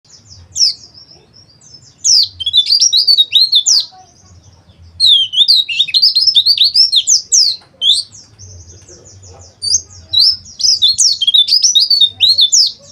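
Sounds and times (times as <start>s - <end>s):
bird twittering chatter: 0.1s - 12.9s.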